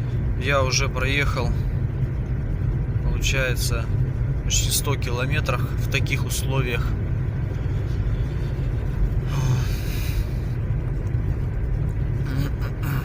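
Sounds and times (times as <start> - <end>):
car cabin engine and tyre noise: 0.0 - 13.0.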